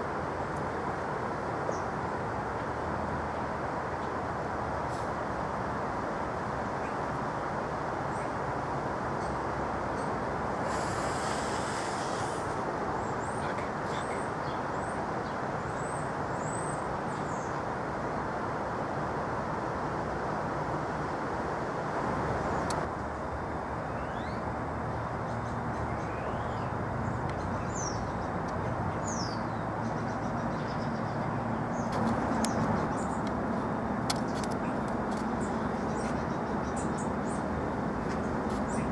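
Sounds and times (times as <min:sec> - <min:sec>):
distant highway traffic: 0:00.0 - 0:38.9.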